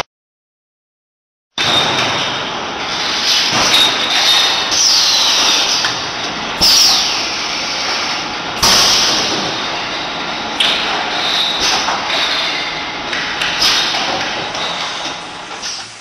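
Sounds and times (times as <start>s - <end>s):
machinery clattering and hissing: 1.6s - 16.0s.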